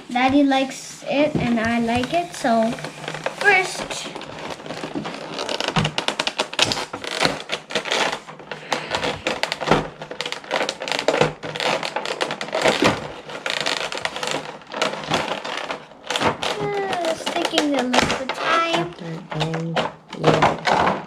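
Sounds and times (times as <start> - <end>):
plastic packaging clicks and crinkles: 0.0 - 21.0.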